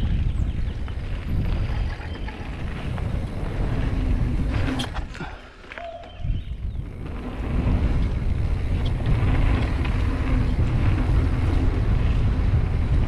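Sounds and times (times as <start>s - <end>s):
bike rolling over dirt trail: 0.0s - 13.0s
wind buffeting microphone: 0.0s - 13.0s.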